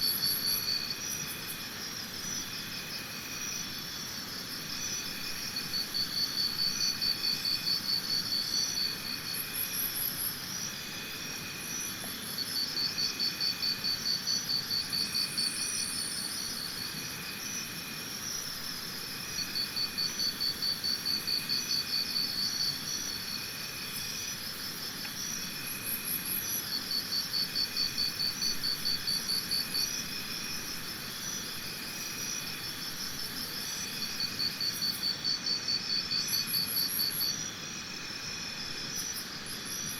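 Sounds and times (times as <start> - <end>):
insect chorus trilling: 0.0 - 39.9
insect pulsed trill: 0.0 - 39.9.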